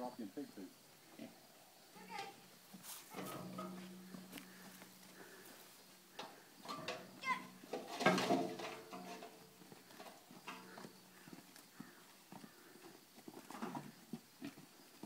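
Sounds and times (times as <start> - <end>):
hooves clicking on dirt: 2.1 - 15.0.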